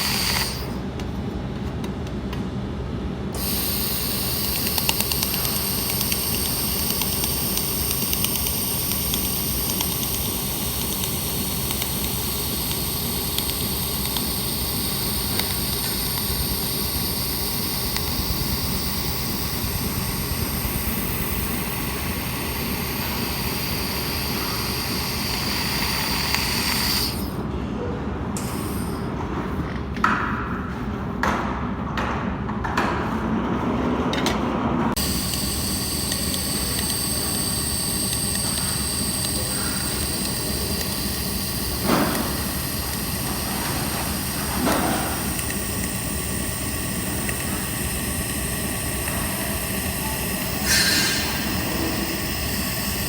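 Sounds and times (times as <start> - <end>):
welding gun hiss with high tones: 0.0 - 0.8, 3.4 - 27.4, 28.4 - 29.1, 35.0 - 53.0
welding machine low hum: 0.0 - 1.1, 3.2 - 27.5, 28.3 - 29.6, 35.0 - 53.0.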